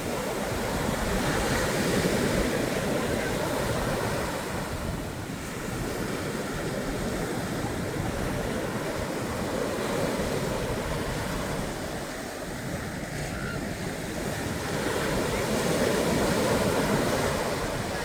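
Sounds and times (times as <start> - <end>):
surf washing onto beach: 0.0 - 18.0
wind rumbling on microphone: 0.0 - 18.0.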